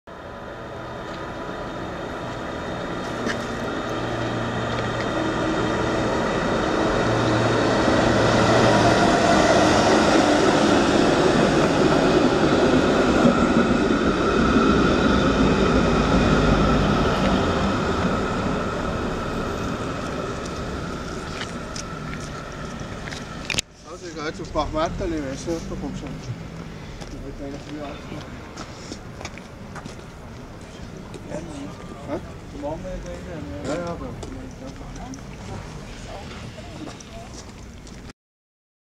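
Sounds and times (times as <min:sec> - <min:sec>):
tram rumbling on rails: 0:00.1 - 0:37.8.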